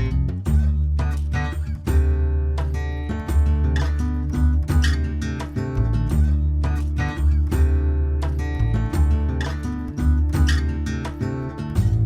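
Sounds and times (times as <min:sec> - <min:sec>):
steady bass line: 0:00.0 - 0:12.0
strummed acoustic guitar: 0:00.0 - 0:12.0.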